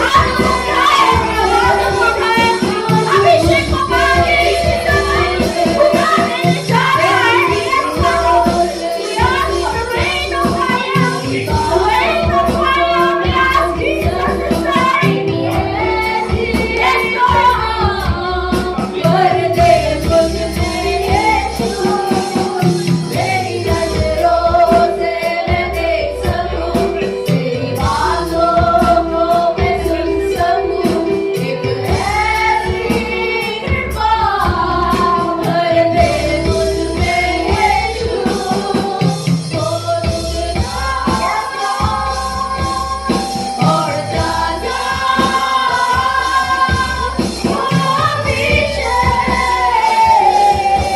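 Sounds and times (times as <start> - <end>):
band accompaniment: 0.0 - 50.9
congregation singing worship song: 0.0 - 50.9
tambourine beat: 0.0 - 50.9
woman leading singing: 0.0 - 50.9.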